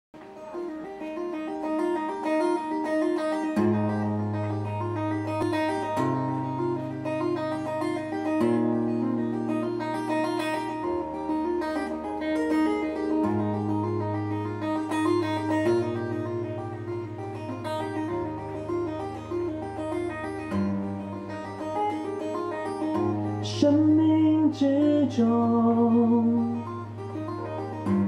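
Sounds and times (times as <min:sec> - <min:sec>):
fingerstyle acoustic guitar: 0:00.2 - 0:28.0.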